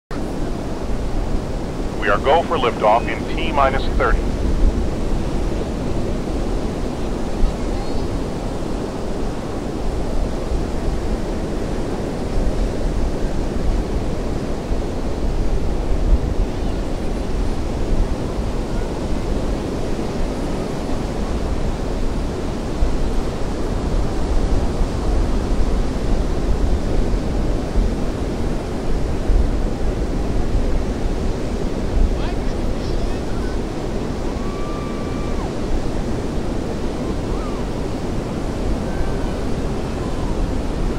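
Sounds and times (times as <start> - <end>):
ocean surf breaking: 0.1 - 40.9
wind on microphone: 0.1 - 40.9.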